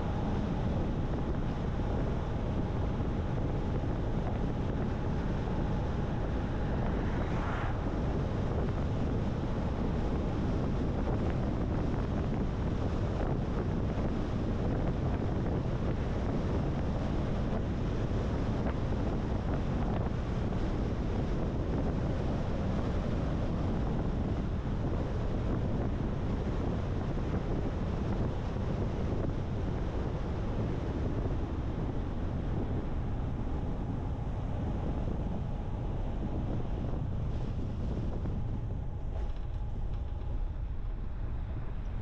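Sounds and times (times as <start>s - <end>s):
car road noise: 0.0s - 42.0s
wind rushing over microphone: 0.0s - 42.0s.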